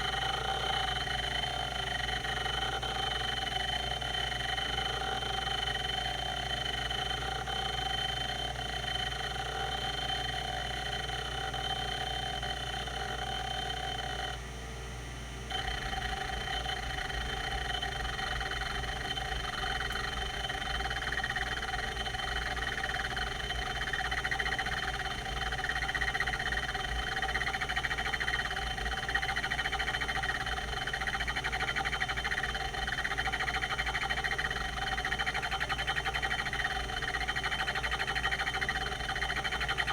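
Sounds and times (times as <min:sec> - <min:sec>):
hard drive whine: 0:00.0 - 0:39.9.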